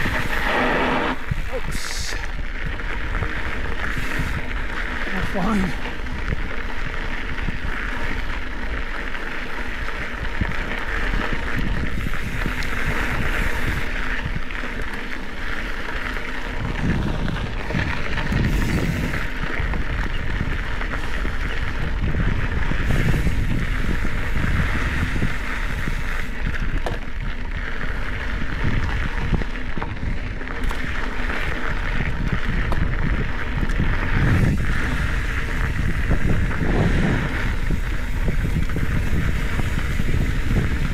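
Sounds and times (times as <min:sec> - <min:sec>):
bike tyre and drivetrain noise: 0:00.0 - 0:40.9
wind rumbling on microphone: 0:00.0 - 0:40.9.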